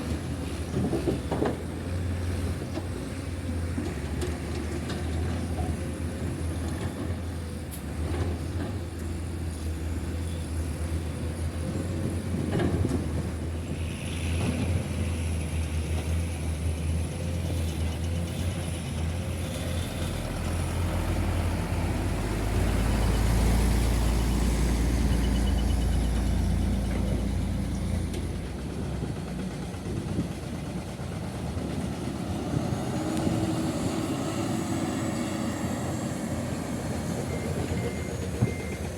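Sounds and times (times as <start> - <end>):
diesel machinery engines running: 0.0 - 38.9.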